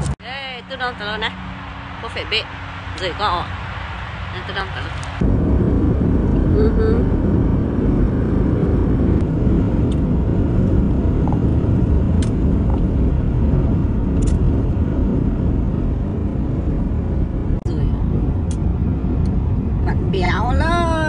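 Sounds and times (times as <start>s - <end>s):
car road rumble from inside: 0.0s - 21.0s.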